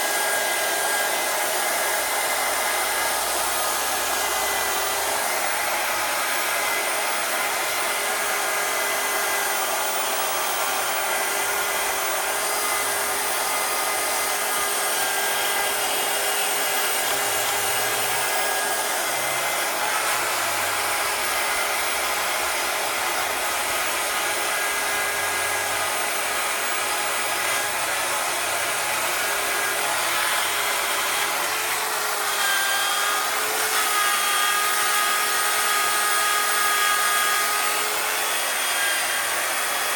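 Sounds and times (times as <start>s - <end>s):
electric drill with wire brush: 0.0s - 39.9s.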